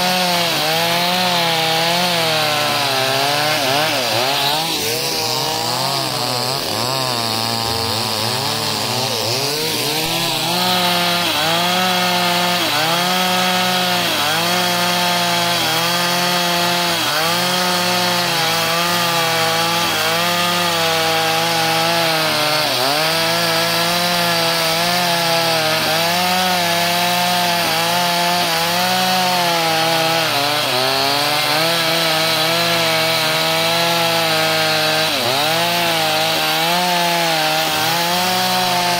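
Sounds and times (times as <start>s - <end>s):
chainsaw cutting a log: 0.0s - 38.9s.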